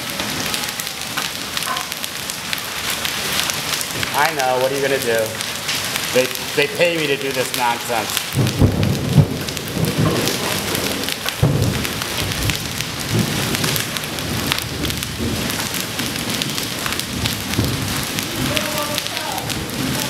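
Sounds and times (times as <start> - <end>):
hail and rain pelting pavement: 0.0 - 20.0.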